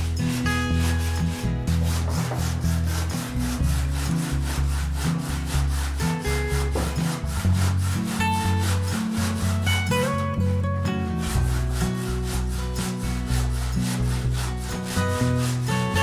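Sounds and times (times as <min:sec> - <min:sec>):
background music with bass: 0:00.0 - 0:16.0
handsaw rasping on stone: 0:00.0 - 0:16.0.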